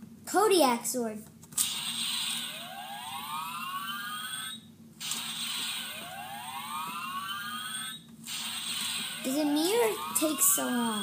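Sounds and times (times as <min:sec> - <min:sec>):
toy electronic rising whine: 0:01.6 - 0:11.0.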